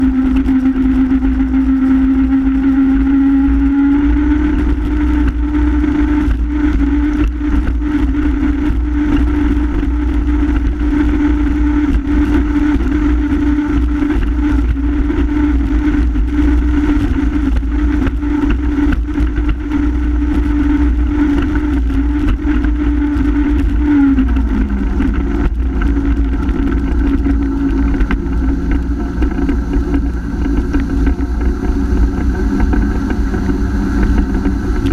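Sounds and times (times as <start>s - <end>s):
heavy low rumble: 0.0s - 34.9s
jet ski engine running hard: 0.0s - 34.9s.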